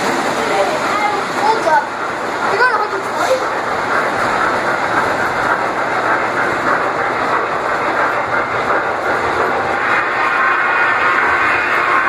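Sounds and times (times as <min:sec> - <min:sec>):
model train rolling: 0:00.0 - 0:12.0.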